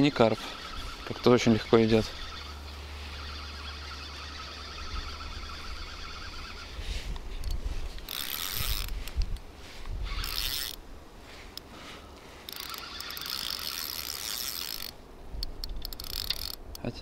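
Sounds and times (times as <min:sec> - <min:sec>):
fishing reel gears whirring: 0:00.0 - 0:09.1, 0:10.0 - 0:10.8, 0:12.4 - 0:16.8.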